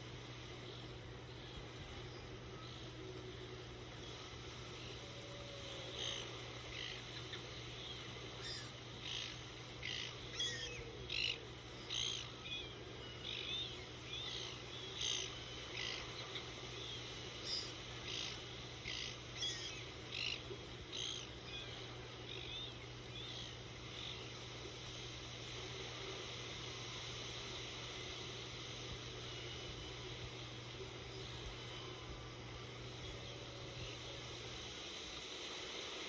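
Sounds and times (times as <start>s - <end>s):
faint hiss: 0.0s - 36.0s
steady low hum: 0.0s - 36.0s
birds chirping: 0.3s - 36.0s.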